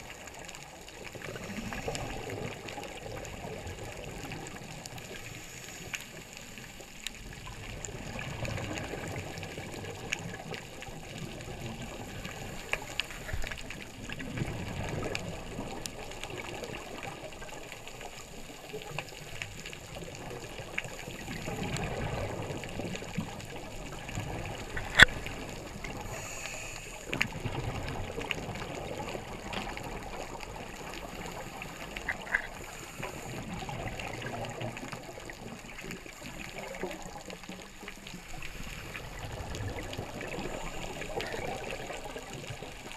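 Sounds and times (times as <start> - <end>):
regulator bubbles underwater: 0.0 - 42.9
sharp clicks and crackles: 0.1 - 42.9.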